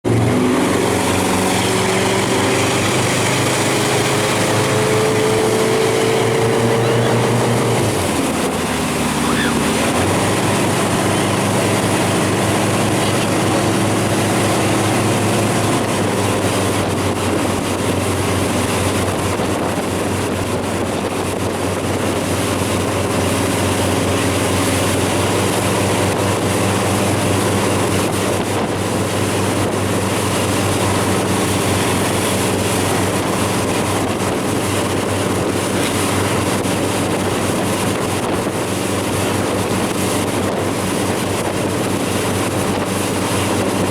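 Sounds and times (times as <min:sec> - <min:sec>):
boat engine running: 0:00.0 - 0:43.9
water rushing: 0:00.1 - 0:43.9
wind buffeting microphone: 0:00.1 - 0:43.9.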